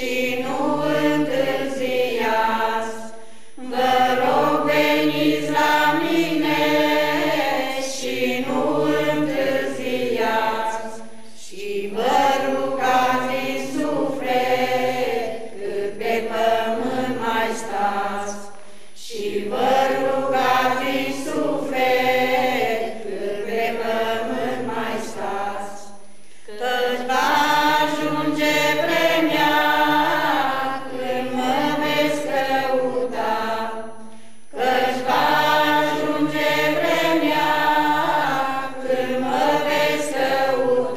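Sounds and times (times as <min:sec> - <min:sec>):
choir singing unaccompanied: 0:00.0 - 0:40.9.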